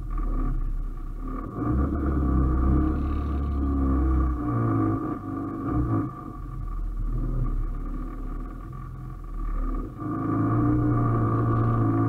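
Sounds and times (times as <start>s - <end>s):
car engine idling and pulling off: 0.0s - 12.0s.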